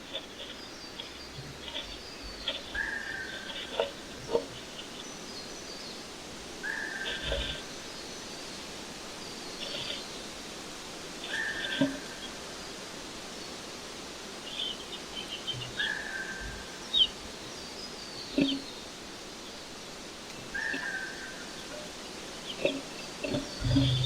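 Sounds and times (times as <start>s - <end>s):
background hiss: 0.0s - 24.0s
small birds chirping: 0.0s - 24.0s.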